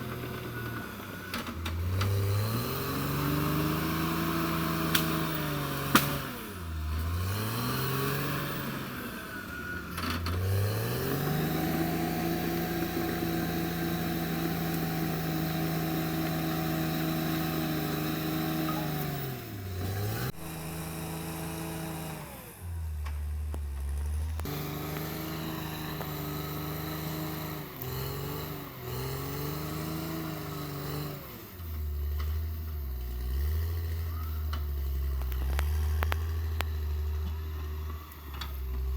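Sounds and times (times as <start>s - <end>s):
bulldozer diesel engine working: 0.0s - 38.9s.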